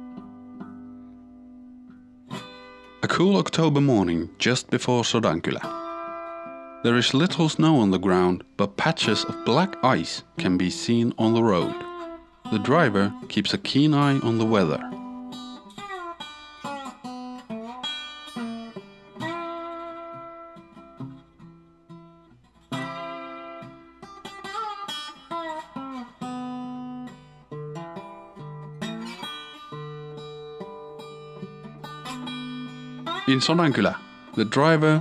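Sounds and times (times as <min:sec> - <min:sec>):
acoustic guitar plucked and strummed: 0:00.0 - 0:35.0.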